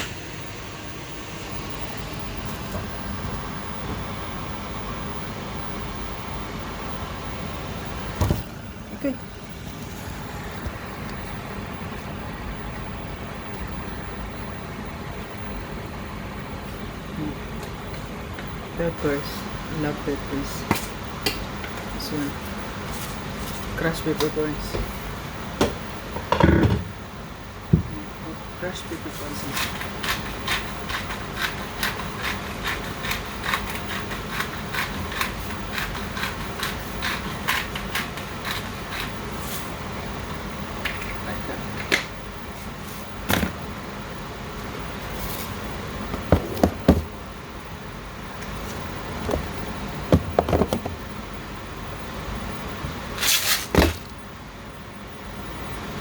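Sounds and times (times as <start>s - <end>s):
microwave oven humming: 0.0s - 53.2s.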